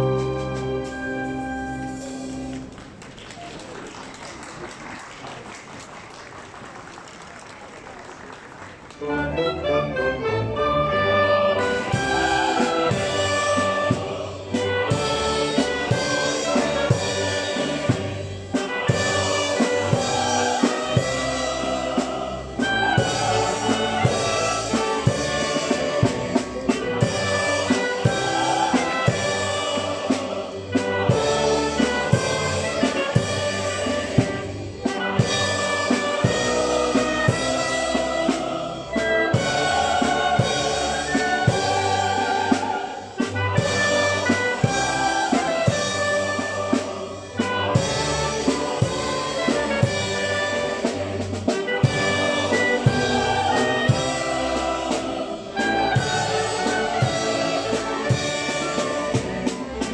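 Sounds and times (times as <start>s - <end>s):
brass: 0.0s - 2.8s, 8.6s - 59.9s.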